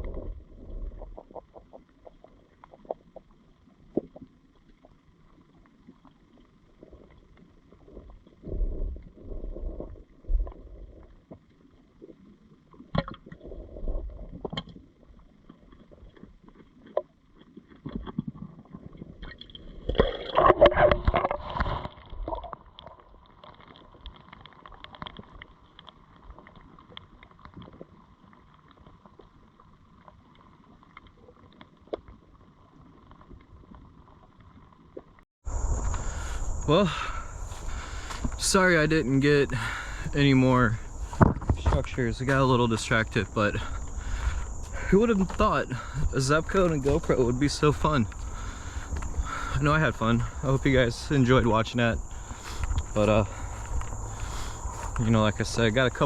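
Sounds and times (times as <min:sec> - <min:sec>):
faint steady hum: 0:00.0 - 0:56.0
water sloshing underwater: 0:00.0 - 0:56.0.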